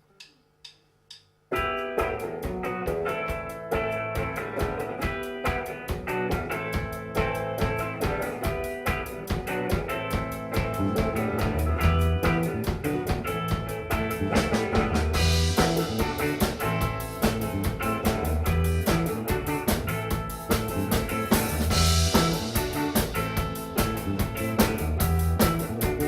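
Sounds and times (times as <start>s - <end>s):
blues-rock band playing: 1.5s - 26.0s.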